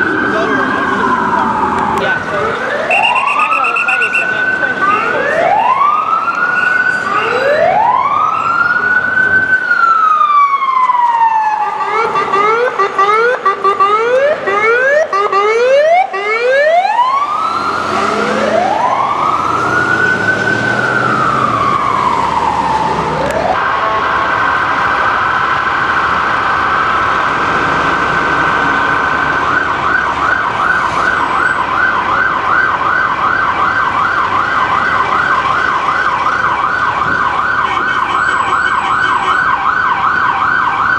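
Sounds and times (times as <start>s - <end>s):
ambulance siren: 0.0s - 40.9s.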